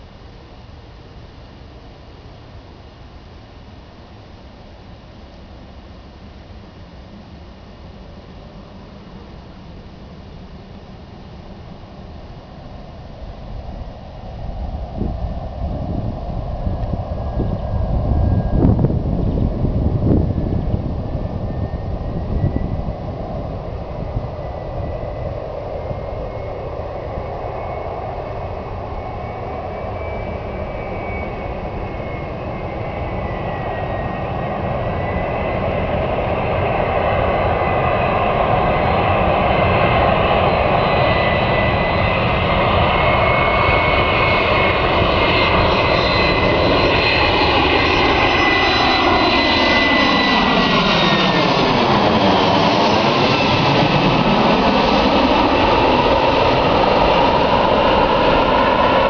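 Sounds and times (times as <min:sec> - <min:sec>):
jet engines rushing and whining: 0:00.0 - 0:59.0.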